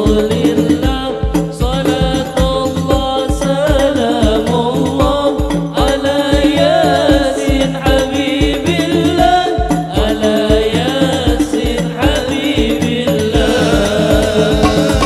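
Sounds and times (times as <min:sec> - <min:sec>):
frame drums beating: 0:00.0 - 0:15.0
voices singing: 0:00.0 - 0:15.0.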